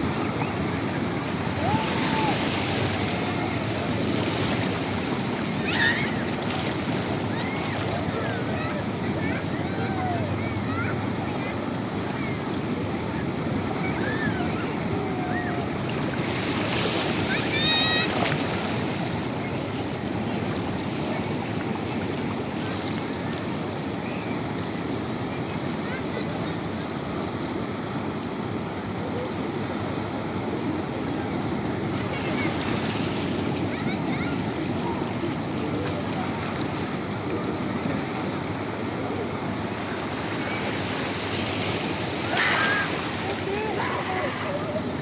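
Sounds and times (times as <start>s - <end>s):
ocean surf washing on shore: 0.0s - 45.0s.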